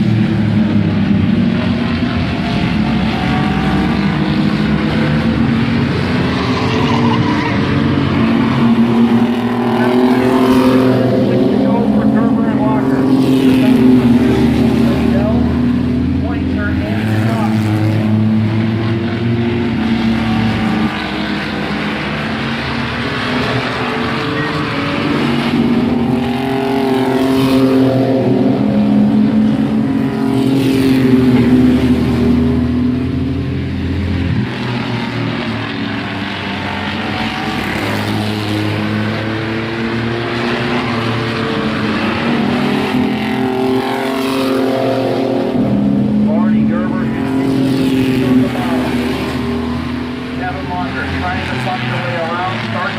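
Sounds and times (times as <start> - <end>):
racing engines revving: 0.0 - 52.9.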